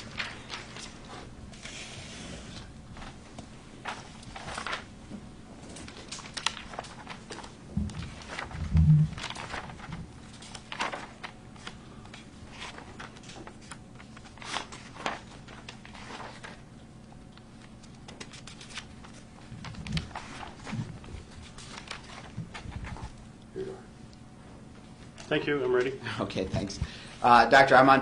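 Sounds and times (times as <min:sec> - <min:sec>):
paper rustling and pages turning: 0:00.0 - 0:05.0, 0:05.6 - 0:23.4
faint room hum: 0:00.0 - 0:28.0.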